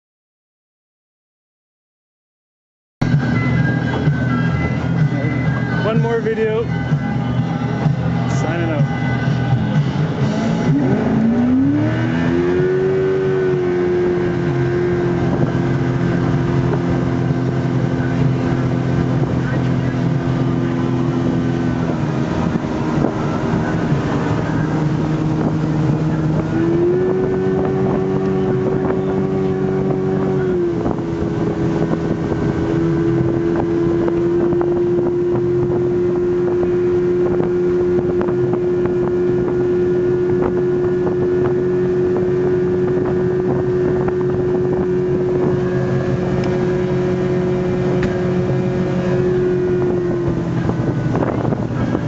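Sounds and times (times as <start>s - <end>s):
outboard motor running: 3.0s - 52.0s
wind on microphone: 3.0s - 52.0s.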